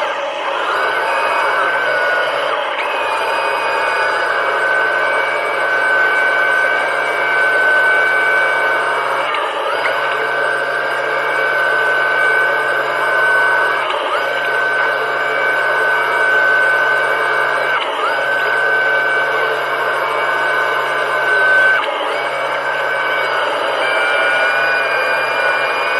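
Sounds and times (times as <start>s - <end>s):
underwater thruster whining: 0.0s - 25.9s.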